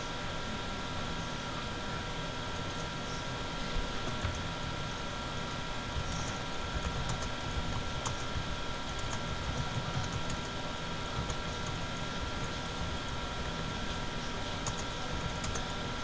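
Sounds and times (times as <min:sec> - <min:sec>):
faint steady whine: 0:00.0 - 0:16.0.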